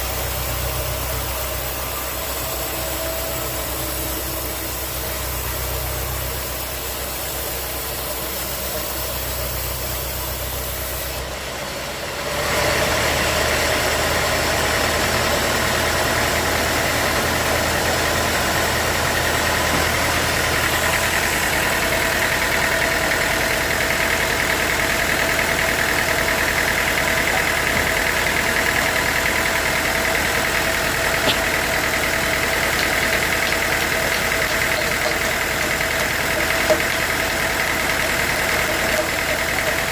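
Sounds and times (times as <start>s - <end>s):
high machine whine: 0.0s - 11.2s, 14.0s - 39.9s
sawmill machinery humming: 0.0s - 39.9s.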